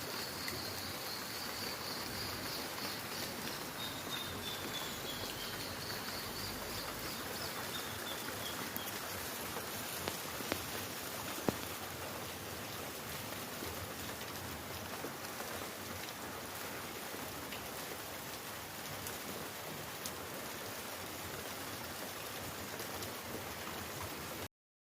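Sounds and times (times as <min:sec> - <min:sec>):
steady rain hiss: 0:00.0 - 0:24.5.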